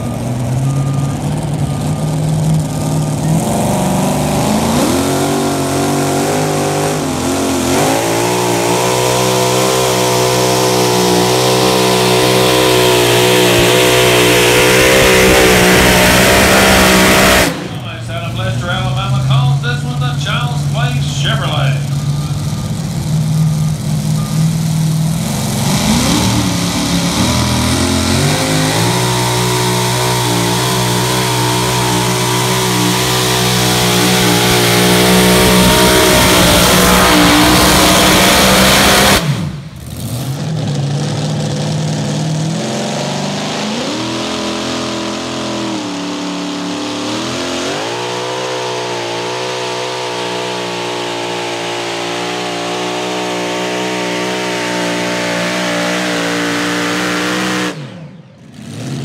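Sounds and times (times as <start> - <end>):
truck engine running hard: 0.0 - 59.0.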